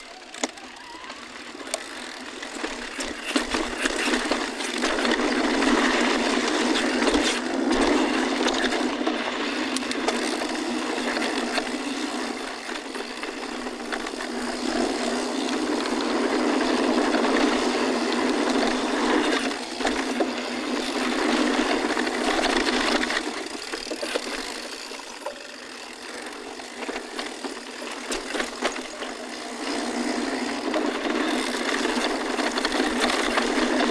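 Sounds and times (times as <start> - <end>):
bike rattling and clicking: 0.0 - 33.9
bike tyres on rocky dirt: 0.0 - 33.9.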